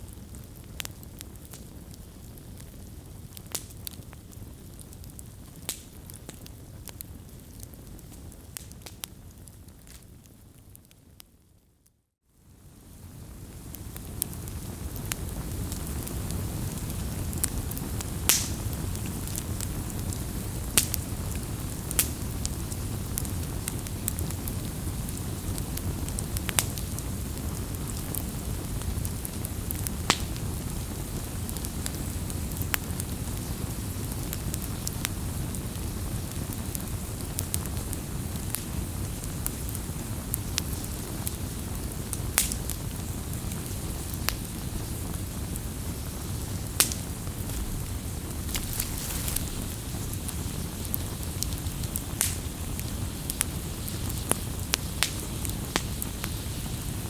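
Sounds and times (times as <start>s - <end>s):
low rumble of flames: 0.0s - 11.2s, 12.4s - 57.0s
wood fire crackles and pops: 0.0s - 11.4s, 12.5s - 57.0s.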